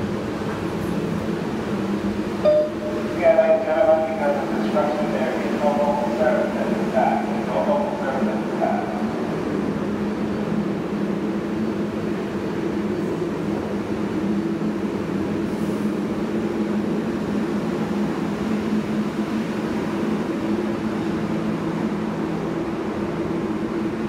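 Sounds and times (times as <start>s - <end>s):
subway train humming: 0.0s - 24.0s.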